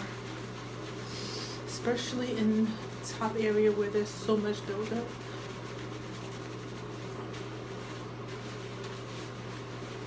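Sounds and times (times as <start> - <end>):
fingers rubbing lathered scalp: 0.0 - 10.0
steady low hum: 0.0 - 10.0.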